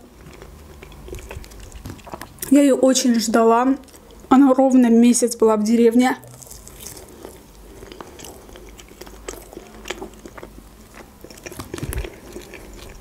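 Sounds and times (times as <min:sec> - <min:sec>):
person chewing food: 0:00.0 - 0:04.3, 0:06.2 - 0:13.0.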